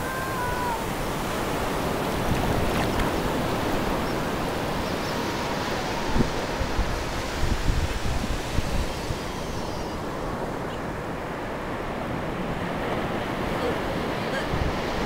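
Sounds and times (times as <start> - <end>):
surf washing over sand: 0.0 - 15.0
wind on microphone: 0.0 - 15.0.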